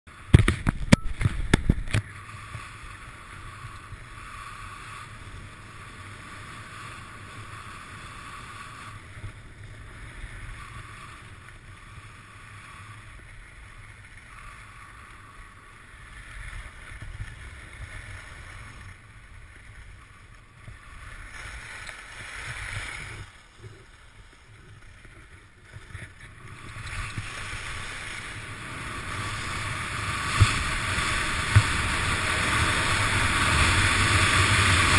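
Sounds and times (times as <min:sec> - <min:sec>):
skis scraping over packed snow: 0:00.1 - 0:34.9.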